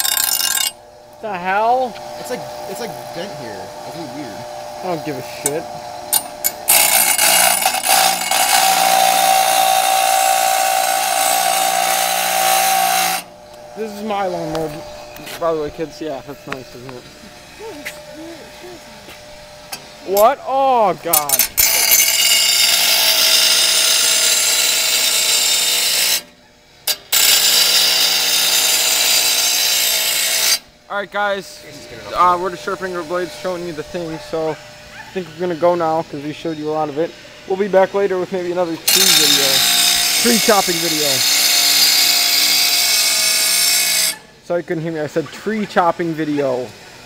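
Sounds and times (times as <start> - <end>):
grinder grinding steel blade: 0.0 - 47.0
grinder wheel whine: 0.0 - 47.0.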